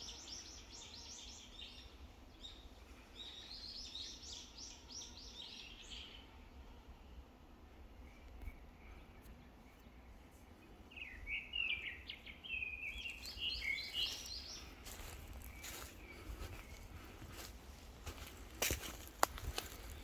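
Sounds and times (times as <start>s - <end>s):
faint outdoor background noise: 0.0s - 20.0s
songbird chirping: 0.0s - 20.0s.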